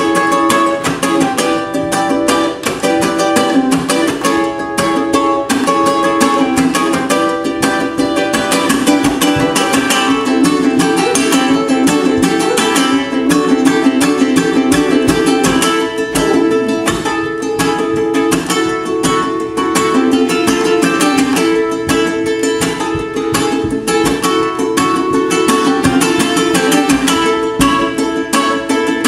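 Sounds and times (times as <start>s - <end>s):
ukulele rapid strumming: 0.0s - 29.0s.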